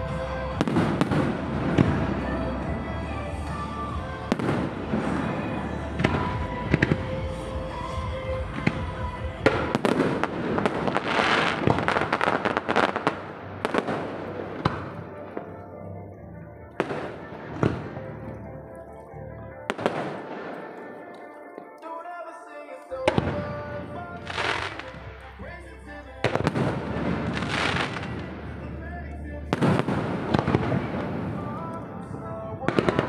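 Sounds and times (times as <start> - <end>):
fireworks booming and crackling: 0.0 - 15.5, 16.8 - 18.2, 19.7 - 21.8, 23.0 - 25.5, 26.2 - 33.0.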